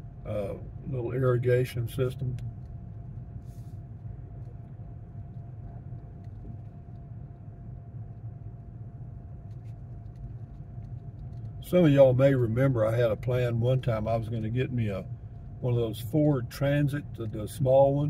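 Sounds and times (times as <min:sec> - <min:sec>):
faint hum: 0:00.0 - 0:18.0
road and engine rumble: 0:00.0 - 0:18.0.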